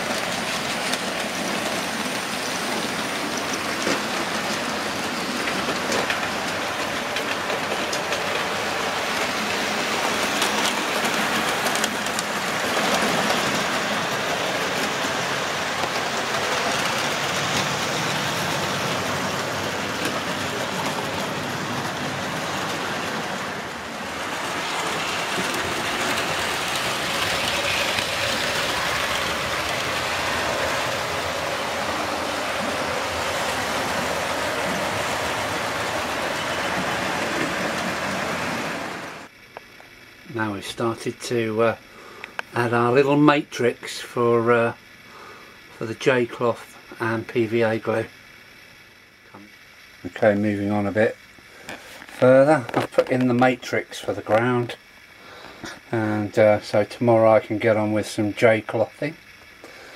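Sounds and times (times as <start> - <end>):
model train motors hissing: 0.0 - 39.3, 40.4 - 59.9.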